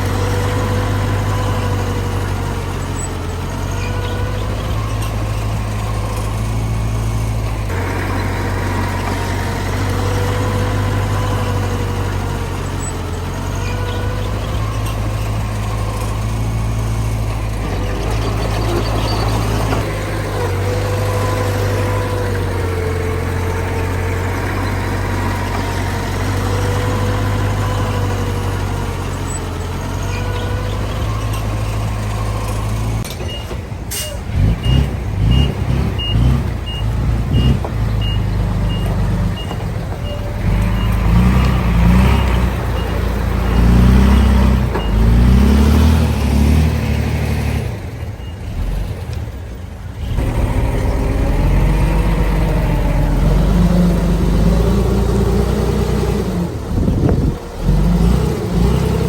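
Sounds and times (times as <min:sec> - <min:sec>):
heavy diesel machinery engine drone: 0:00.0 - 0:59.0.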